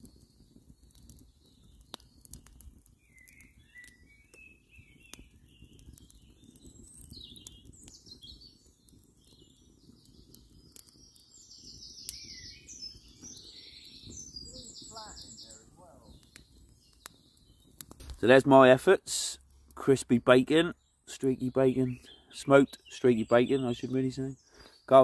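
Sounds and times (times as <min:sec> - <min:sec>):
wood fire crackling: 0:00.0 - 0:25.0
birds chirping and trilling: 0:00.5 - 0:25.0.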